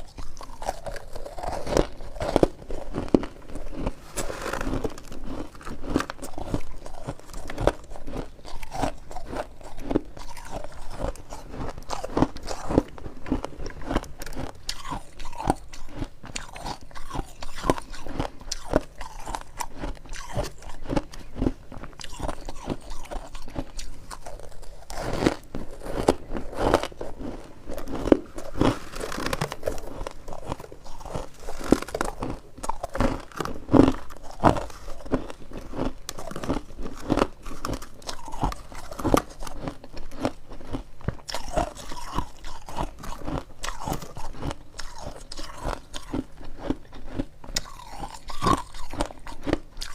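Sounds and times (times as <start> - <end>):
frost being crunched and chewed: 0.0 - 49.9.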